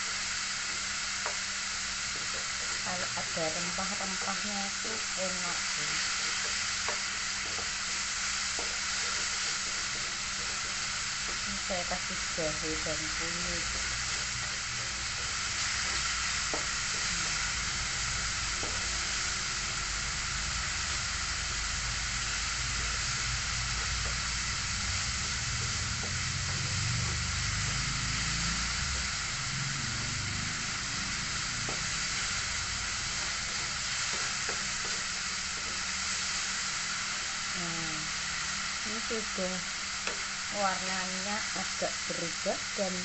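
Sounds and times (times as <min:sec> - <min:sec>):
spice paste sizzling in oil: 0:00.0 - 0:43.0.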